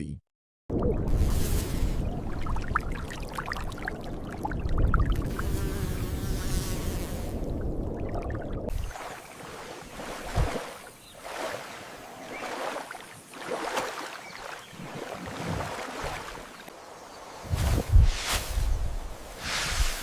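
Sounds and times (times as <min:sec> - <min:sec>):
water splashing and rushing: 0:02.0 - 0:05.5, 0:07.4 - 0:20.0.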